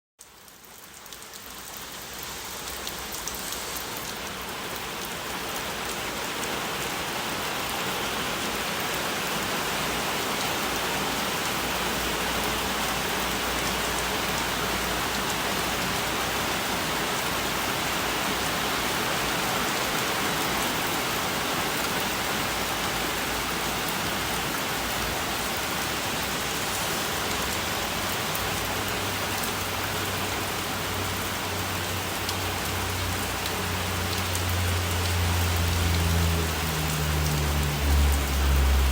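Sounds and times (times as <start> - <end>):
steady rain falling: 0.2 - 38.9.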